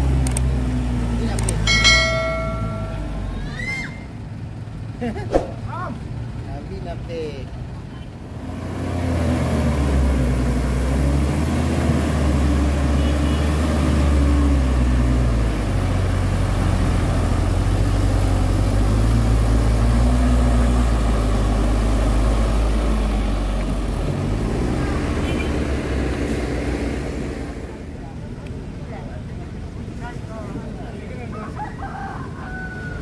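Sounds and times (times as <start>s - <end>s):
backhoe loader engine: 0.0s - 30.3s
diesel truck engine running hard: 0.0s - 33.0s.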